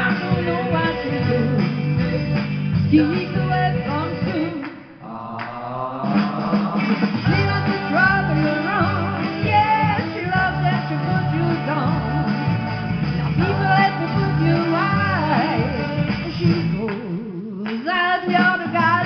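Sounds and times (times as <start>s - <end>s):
rock and roll backing track: 0.0s - 4.8s, 6.0s - 19.0s
woman singing into a microphone: 0.0s - 19.0s.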